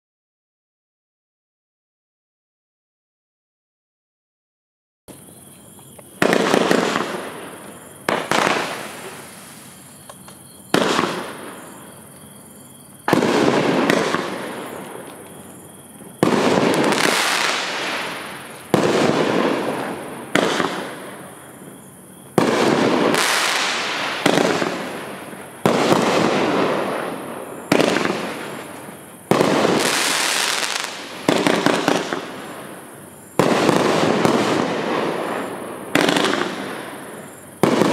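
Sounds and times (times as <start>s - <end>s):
firework bangs: 6.1s - 12.0s, 13.0s - 37.9s.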